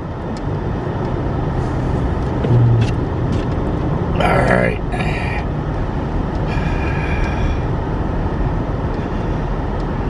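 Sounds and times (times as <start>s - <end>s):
car engine rumble: 0.0s - 10.0s
road noise inside car: 0.0s - 10.0s.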